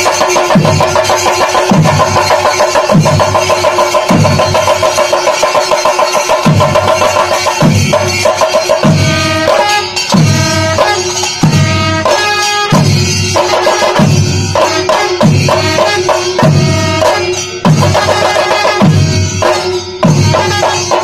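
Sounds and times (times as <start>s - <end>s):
drums beating a rhythm: 0.0s - 21.0s.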